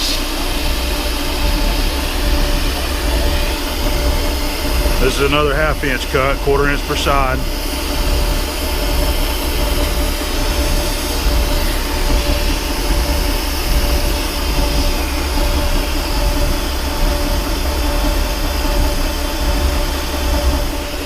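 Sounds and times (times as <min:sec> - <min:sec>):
metal lathe cutting: 0:00.0 - 0:21.0.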